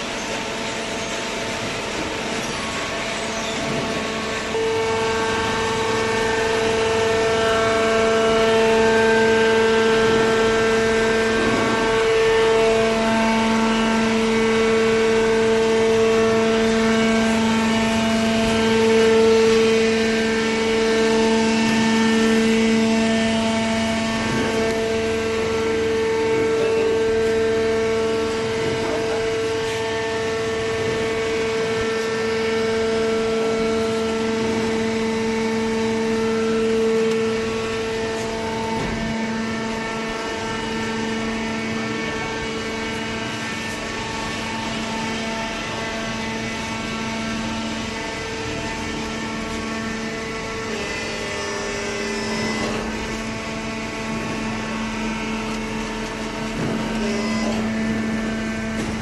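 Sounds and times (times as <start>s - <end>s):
hydraulic motor and pump whining: 0.0s - 59.0s.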